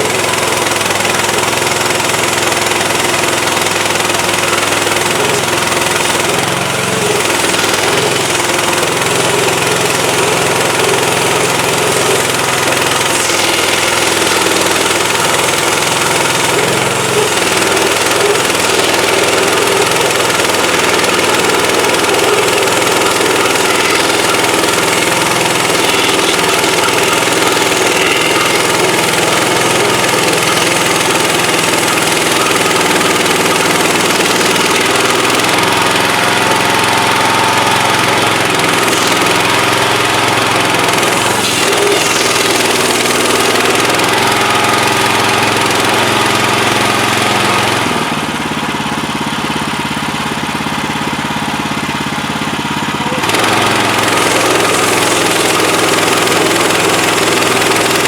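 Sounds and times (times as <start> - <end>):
sawmill petrol engine running: 0.0 - 58.0.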